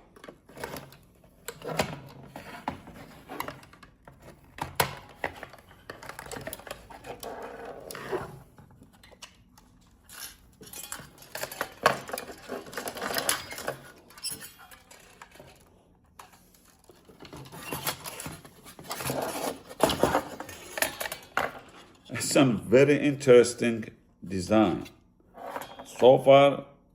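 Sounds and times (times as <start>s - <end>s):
clicks scrapes and clatter: 0.0s - 22.0s.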